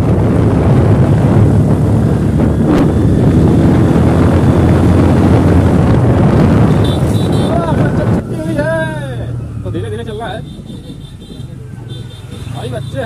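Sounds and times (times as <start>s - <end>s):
wind noise on microphone: 0.0s - 8.7s, 10.3s - 12.7s
motorcycle engine rumble: 0.0s - 13.0s.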